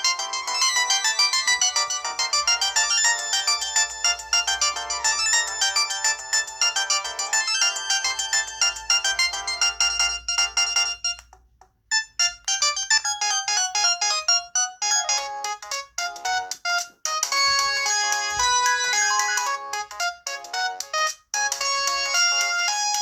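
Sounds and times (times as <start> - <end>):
mobile phone ringtones: 0.0 - 11.2, 11.9 - 20.8.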